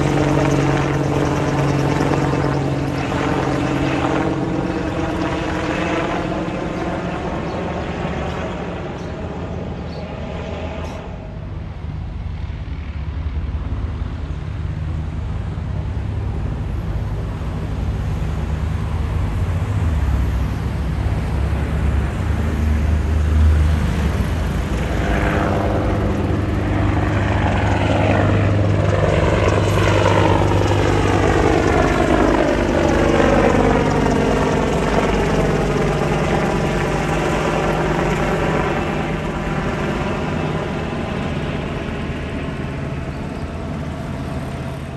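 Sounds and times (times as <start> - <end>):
helicopter flying overhead: 0.0 - 44.9.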